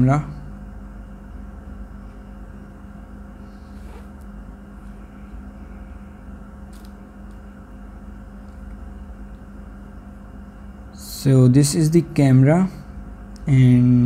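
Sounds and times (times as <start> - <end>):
mechanical room hum: 0.0 - 14.0.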